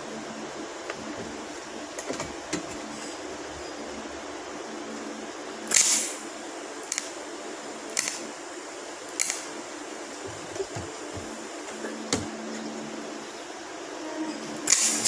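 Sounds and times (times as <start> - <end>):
welding arc hum: 0.0 - 15.0.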